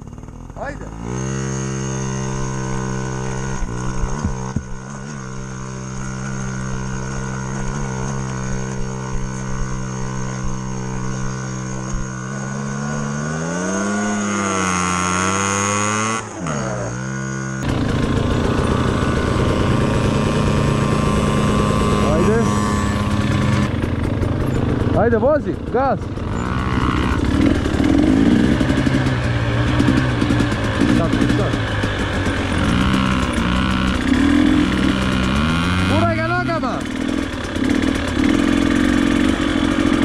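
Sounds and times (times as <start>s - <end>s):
dirt bike engine revving: 0.0s - 40.0s
loud rough engine noise: 0.0s - 40.0s.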